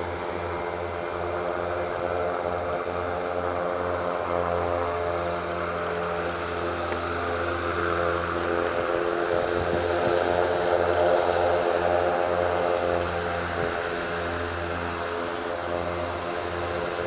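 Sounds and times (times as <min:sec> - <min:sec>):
aircraft propeller engine drone: 0:00.0 - 0:17.0.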